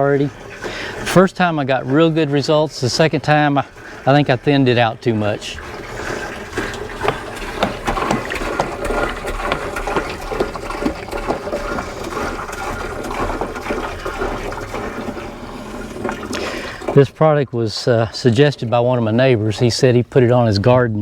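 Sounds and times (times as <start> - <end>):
liquid pouring and gurgling: 0.0 - 21.0.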